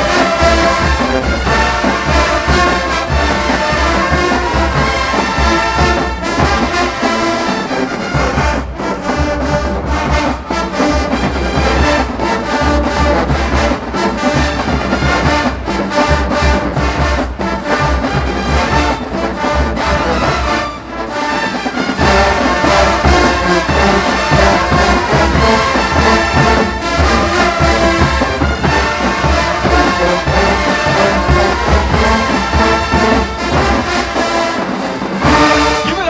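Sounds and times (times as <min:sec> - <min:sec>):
marching band playing brass: 0:00.0 - 0:36.0.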